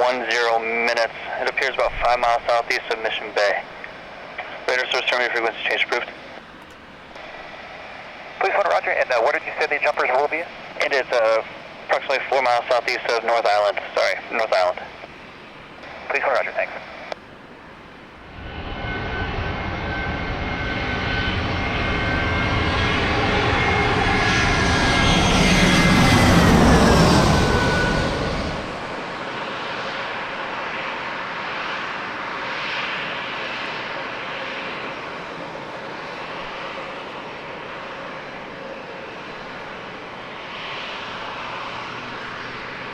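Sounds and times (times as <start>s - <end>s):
jet airliner passing: 0.0s - 42.9s.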